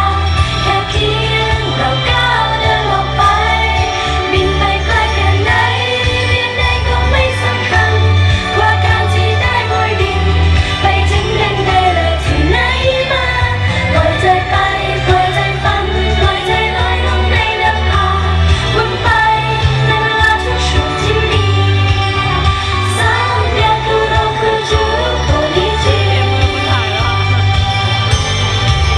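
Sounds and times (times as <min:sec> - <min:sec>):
women singing together: 0:00.0 - 0:26.7
pop band backing track: 0:00.0 - 0:28.9.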